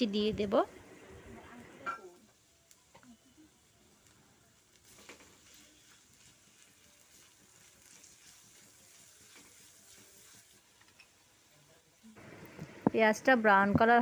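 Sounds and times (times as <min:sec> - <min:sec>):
onions sizzling in hot oil: 0:00.0 - 0:13.9.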